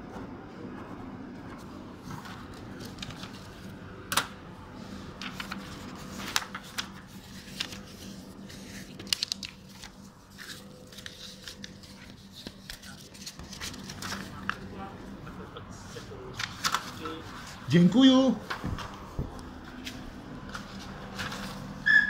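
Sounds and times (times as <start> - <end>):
steady low hum: 0.0 - 21.9
paper rustling: 1.5 - 4.2, 4.8 - 14.8, 15.9 - 17.7, 18.4 - 21.8.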